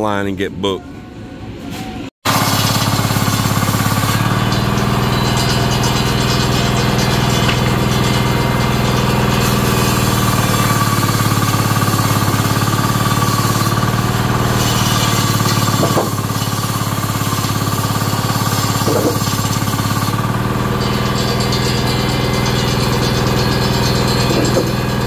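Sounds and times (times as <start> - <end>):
table saw ripping wood: 2.2 - 25.0.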